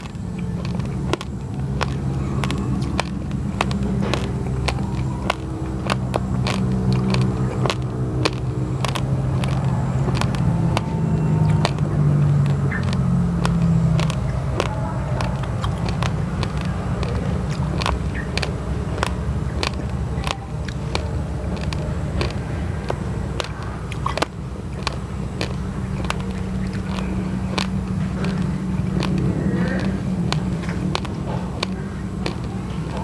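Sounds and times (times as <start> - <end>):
crunching rice grains: 0.0 - 33.0
low engine-like hum: 0.0 - 33.0.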